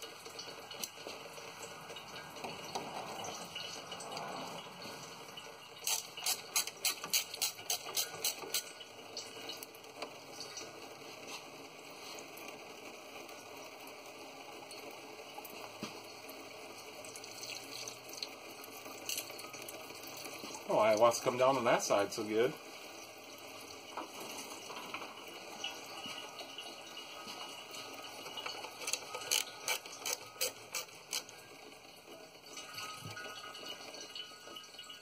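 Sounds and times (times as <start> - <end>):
fluid dripping into a pan: 0.0 - 35.0.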